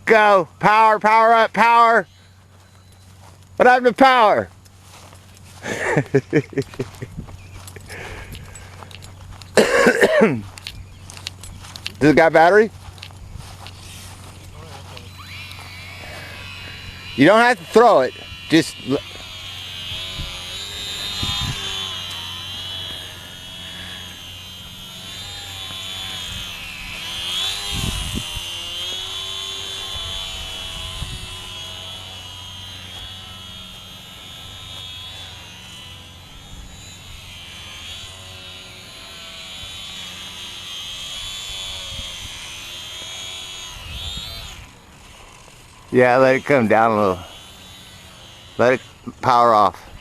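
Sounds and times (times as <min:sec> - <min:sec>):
model airplane motor whine: 0:00.0 - 0:50.0.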